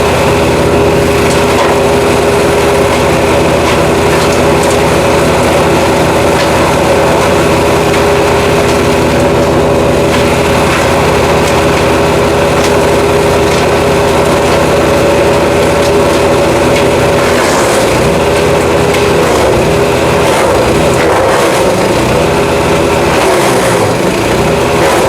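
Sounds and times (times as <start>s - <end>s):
wood chipper engine running: 0.0s - 25.0s.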